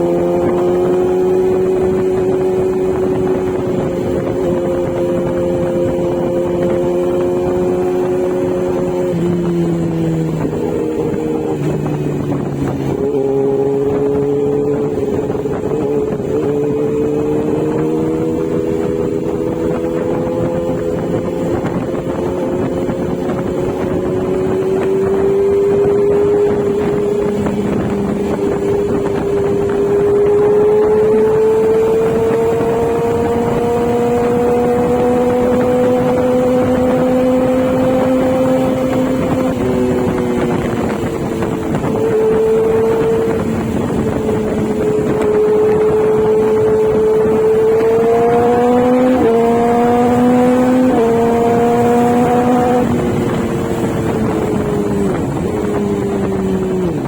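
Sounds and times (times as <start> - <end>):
motorcycle engine shifting gears: 0.0 - 57.0
wind rushing over microphone: 0.0 - 57.0.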